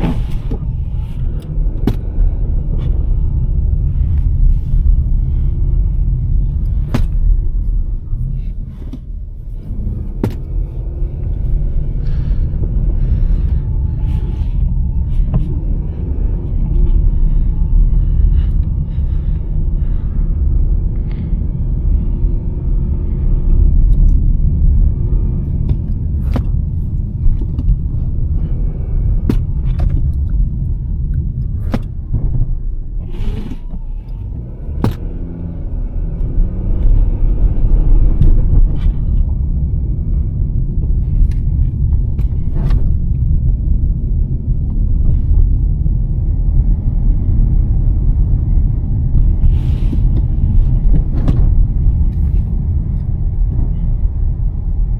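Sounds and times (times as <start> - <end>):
car road and engine rumble: 0.0 - 54.9.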